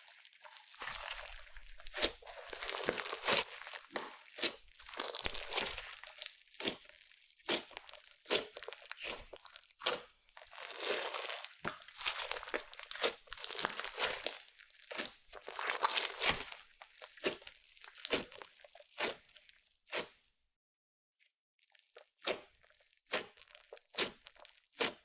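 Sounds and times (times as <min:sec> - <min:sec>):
slime squelching and popping: 0:00.0 - 0:20.2, 0:21.6 - 0:25.0.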